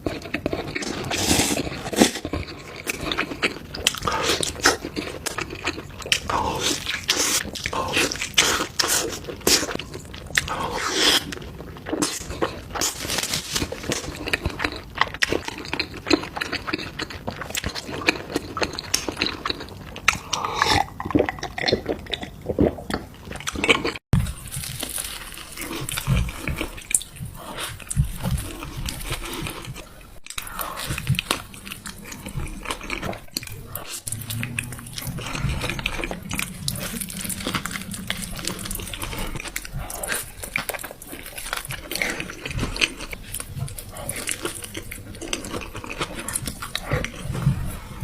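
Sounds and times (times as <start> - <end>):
crunchy chewing: 0.0 - 48.0.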